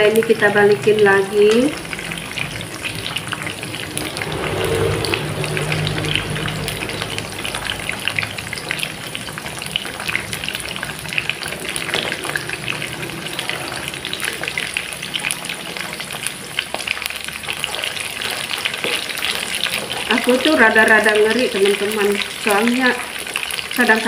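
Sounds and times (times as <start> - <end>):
food deep-frying in hot oil: 0.0 - 24.0.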